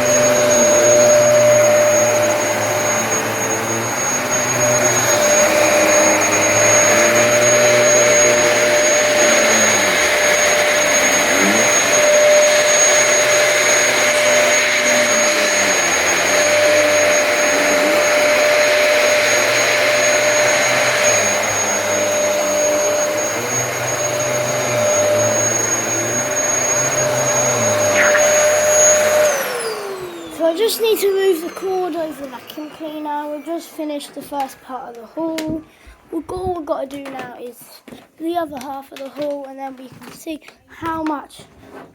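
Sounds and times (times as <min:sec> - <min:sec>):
vacuum cleaner whining: 0:00.0 - 0:41.9.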